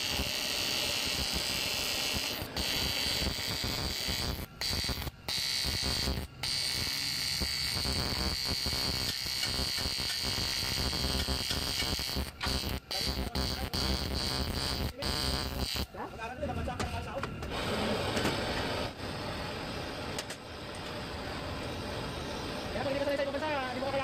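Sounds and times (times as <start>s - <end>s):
welding arc buzzing: 0.0s - 24.0s.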